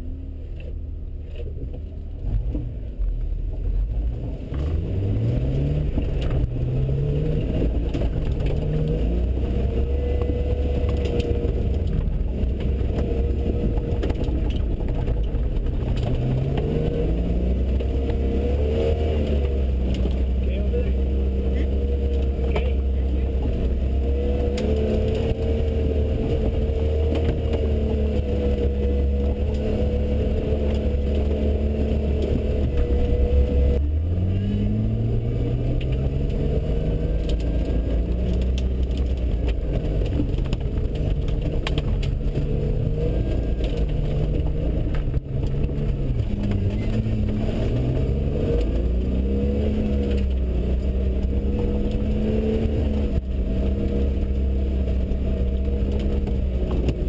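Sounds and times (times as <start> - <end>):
engine revving: 4.0 - 57.0.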